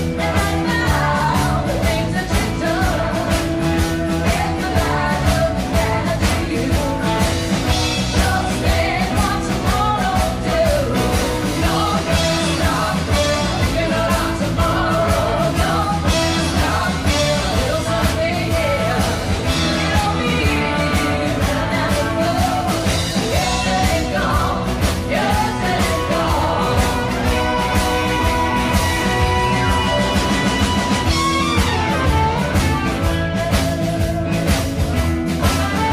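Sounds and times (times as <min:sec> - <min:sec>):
rock and roll song: 0:00.0 - 0:35.9
steady drum beat: 0:00.0 - 0:35.9.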